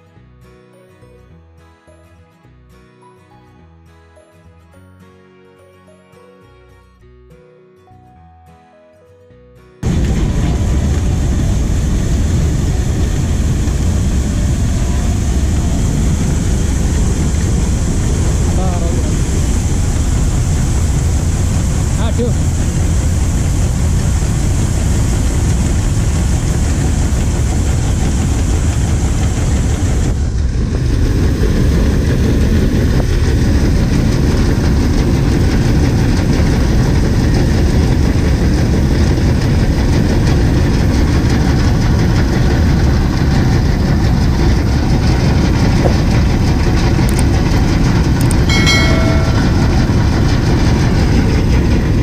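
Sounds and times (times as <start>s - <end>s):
combine harvester running: 9.8s - 52.0s.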